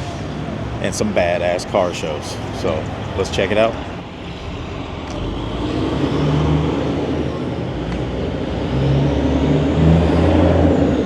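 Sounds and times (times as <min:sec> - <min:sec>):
outdoor background noise: 0:00.0 - 0:11.0
car engine running: 0:01.3 - 0:11.0.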